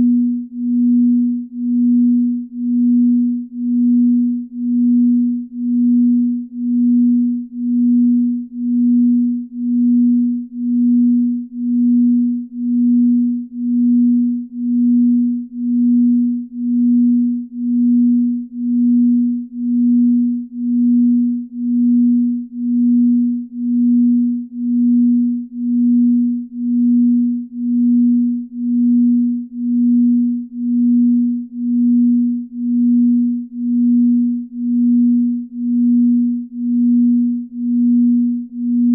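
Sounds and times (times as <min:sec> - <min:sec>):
low pulsing pure tone: 0:00.0 - 0:38.9.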